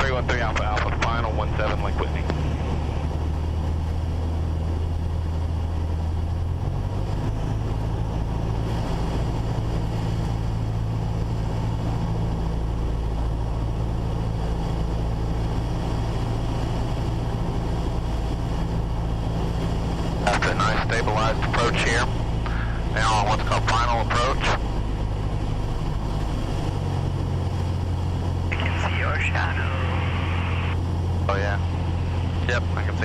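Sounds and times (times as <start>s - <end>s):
light aircraft engine droning: 0.0s - 33.0s.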